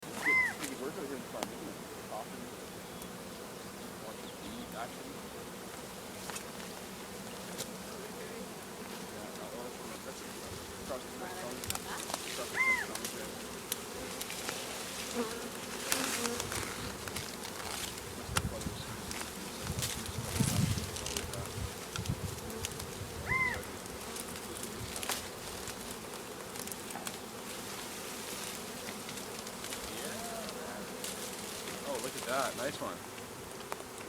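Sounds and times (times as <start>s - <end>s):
bee swarm buzzing: 0.0s - 34.0s.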